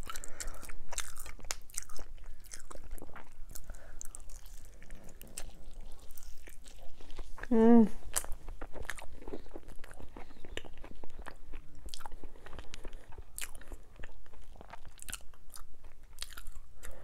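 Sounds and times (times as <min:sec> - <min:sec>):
person chewing with wet crunches: 0:00.0 - 0:17.0.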